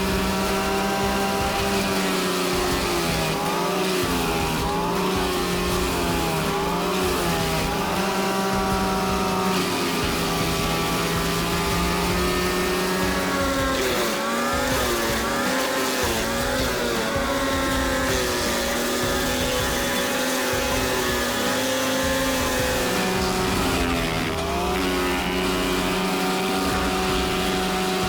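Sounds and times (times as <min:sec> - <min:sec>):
wood chipper engine running hard: 0:00.0 - 0:28.0.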